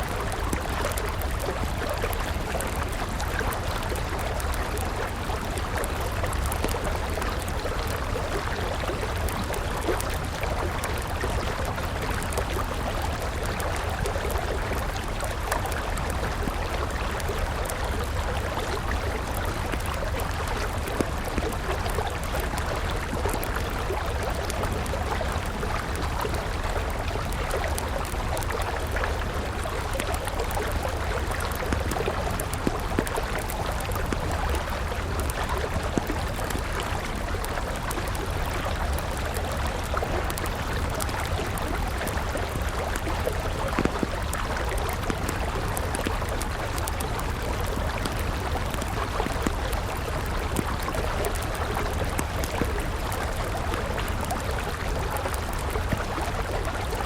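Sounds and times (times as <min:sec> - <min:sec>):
campfire crackling: 0:00.0 - 0:57.0
river water flowing: 0:00.0 - 0:57.0.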